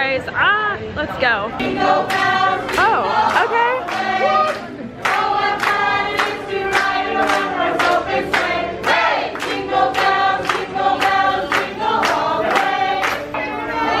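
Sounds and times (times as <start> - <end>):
choir singing over music: 1.6 - 14.0.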